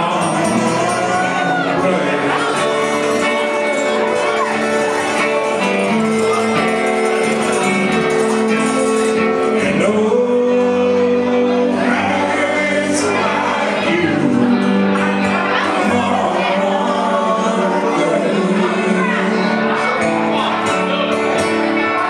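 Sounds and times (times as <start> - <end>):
country band playing: 0.0 - 22.0
electric guitar: 0.0 - 22.0.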